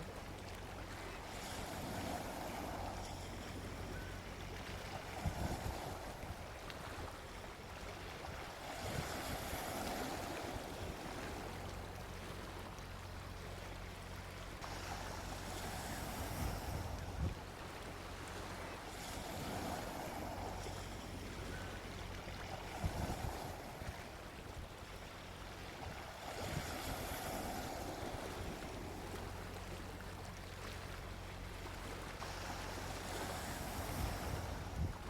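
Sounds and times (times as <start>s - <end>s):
sea waves washing onto beach: 0.0s - 35.0s.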